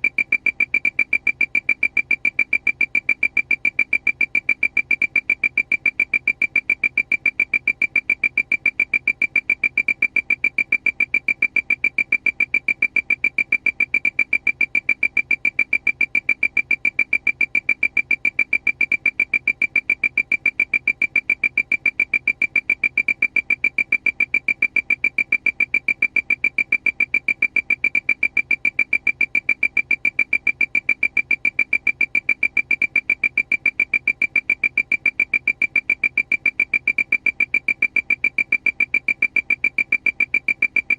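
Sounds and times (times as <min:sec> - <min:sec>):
rapid high-pitched alarm beeps: 0:00.0 - 0:40.9.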